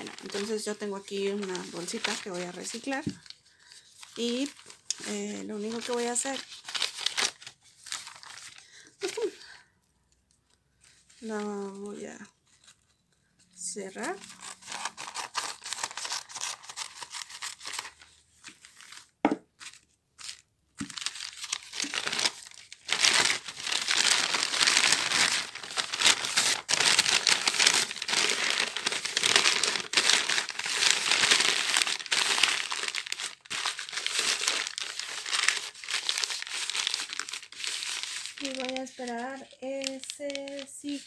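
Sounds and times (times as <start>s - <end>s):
stiff paper rustling and crinkling: 0.0s - 9.4s, 14.0s - 41.0s.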